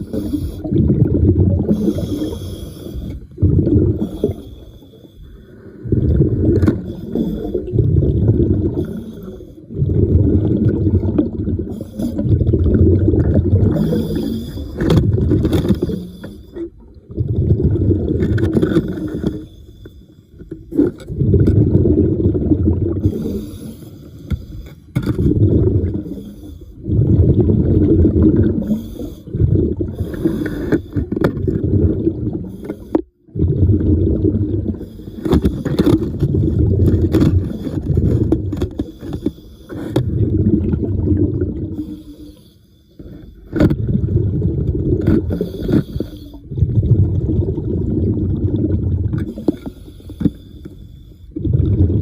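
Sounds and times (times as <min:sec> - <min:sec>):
underwater air bubbles: 0:00.0 - 0:52.0.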